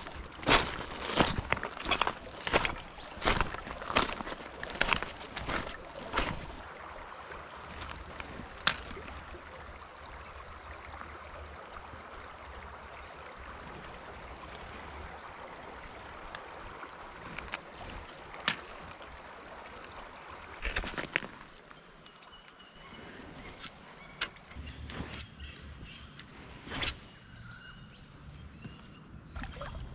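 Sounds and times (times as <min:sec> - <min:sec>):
creek water trickling over stones: 0:00.0 - 0:29.9.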